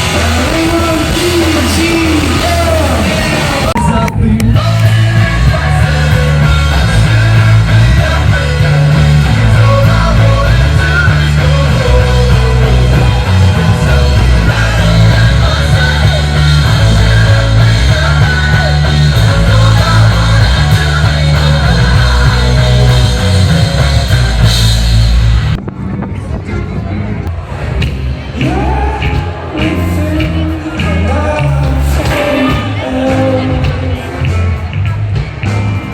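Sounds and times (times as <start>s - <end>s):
person singing: 0.0s - 24.8s, 28.2s - 35.9s
loud rock music: 0.0s - 35.9s.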